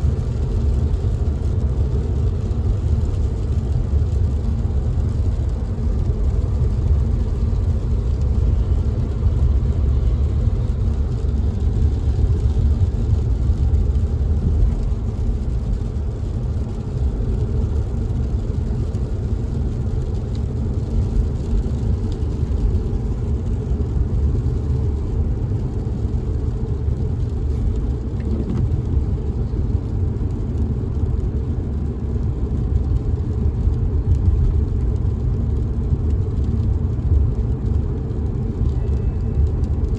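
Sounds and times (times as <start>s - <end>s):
car cabin rumble: 0.0s - 35.6s
rain hissing on car: 0.0s - 39.9s.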